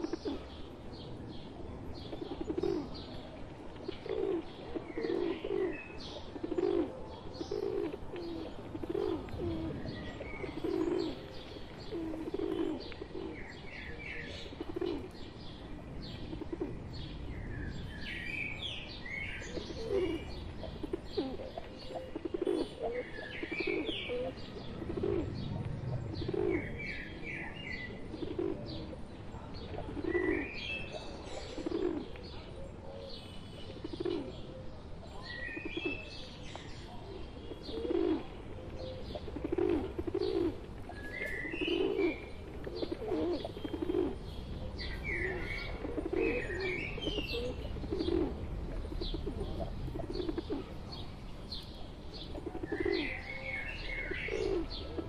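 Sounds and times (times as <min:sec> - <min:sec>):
pigeons cooing: 0:00.0 - 0:55.0
small birds chirping: 0:00.0 - 0:55.0.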